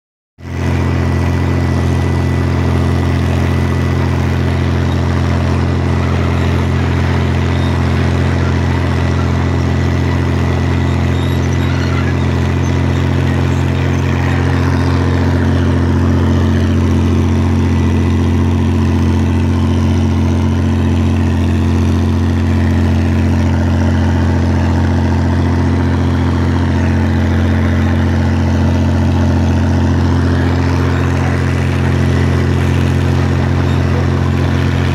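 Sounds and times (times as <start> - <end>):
tractor diesel engine under load: 0.4 - 34.9.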